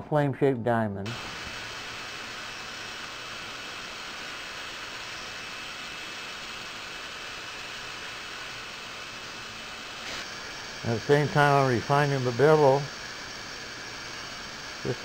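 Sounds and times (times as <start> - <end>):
dental drill hissing: 1.1 - 15.0.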